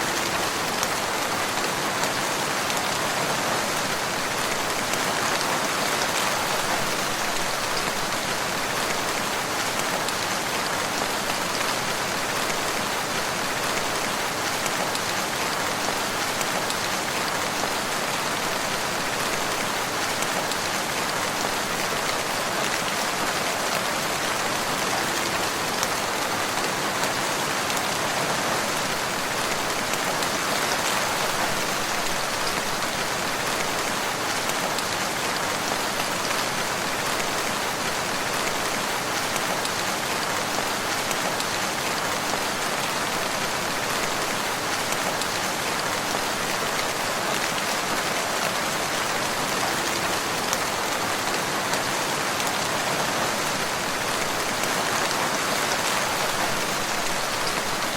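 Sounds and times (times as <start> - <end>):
rain falling on a surface: 0.0 - 57.9.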